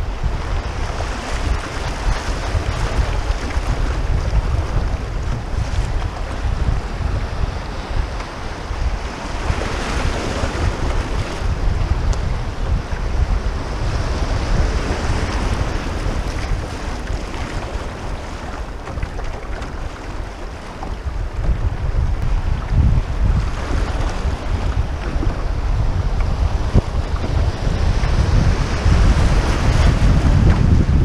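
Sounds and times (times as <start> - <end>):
river current rushing and splashing: 0.0 - 31.0
wind buffeting microphone: 0.0 - 31.0.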